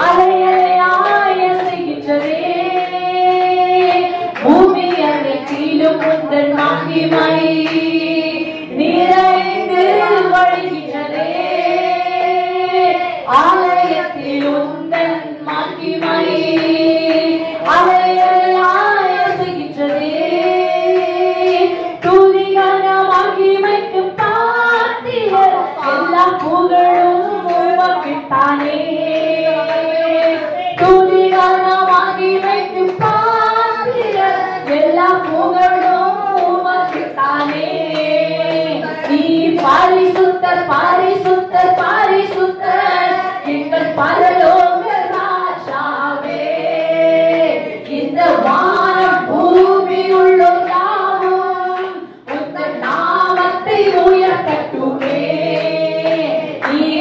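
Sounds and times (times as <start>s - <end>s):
hands clapping along: 0.0s - 57.0s
woman singing worship song: 0.0s - 57.0s.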